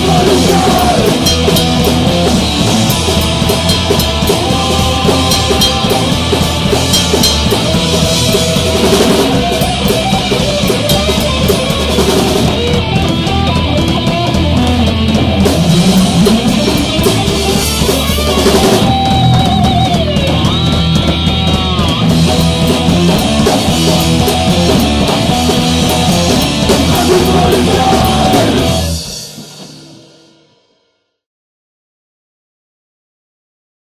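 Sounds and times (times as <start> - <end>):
distorted electric guitar: 0.0 - 30.1
punk rock band playing: 0.0 - 30.7
drum kit: 0.0 - 30.9.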